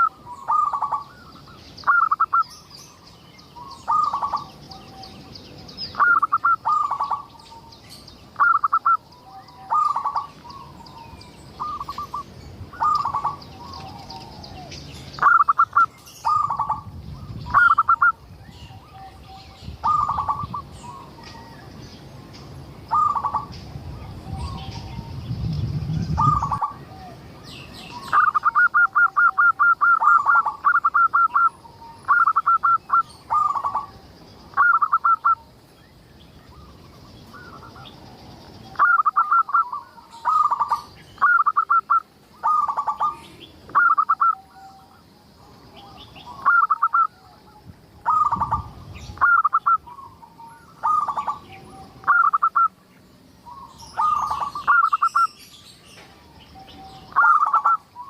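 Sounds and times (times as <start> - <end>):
dove cooing: 0.0 - 2.5, 3.6 - 5.2, 5.9 - 7.7, 8.4 - 21.5, 22.9 - 25.2, 26.0 - 27.3, 27.9 - 35.4, 38.7 - 52.7, 53.5 - 55.3, 56.6 - 58.0.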